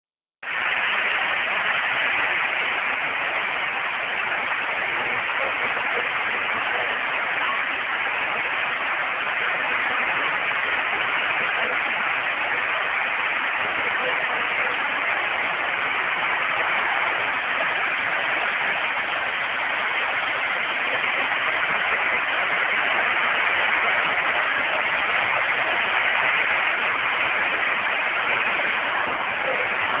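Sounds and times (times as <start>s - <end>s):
heavy rain pouring: 0.4s - 30.0s.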